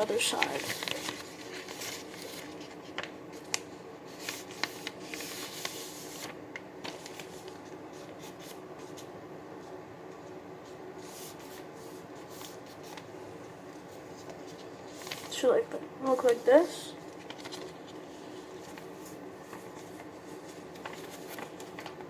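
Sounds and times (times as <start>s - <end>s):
faint steady hum: 0.0s - 22.0s
paper being folded and creased: 0.0s - 22.0s.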